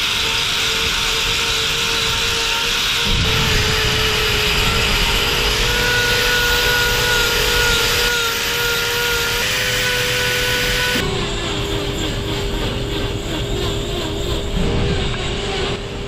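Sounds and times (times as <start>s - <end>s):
angle grinder grinding horn: 0.0s - 16.0s.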